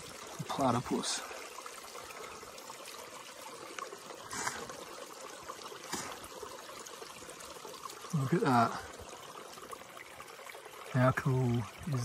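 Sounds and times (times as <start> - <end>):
creek water trickling: 0.0 - 12.0.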